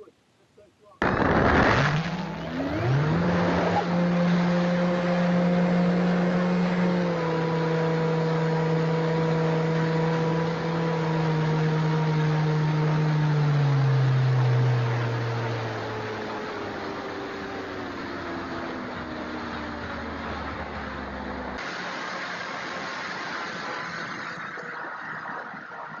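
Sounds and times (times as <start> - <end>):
electric motor and propeller whine: 1.0 - 26.0.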